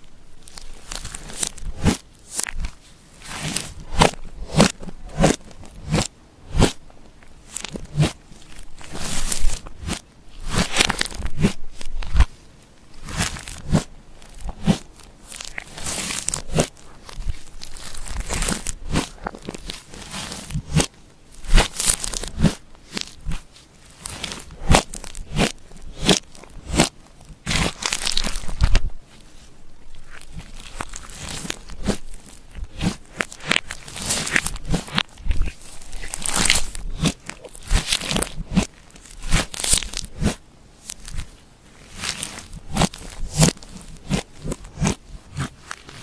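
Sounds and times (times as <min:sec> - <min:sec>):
slime squishing and crackling: 0:00.0 - 0:46.0.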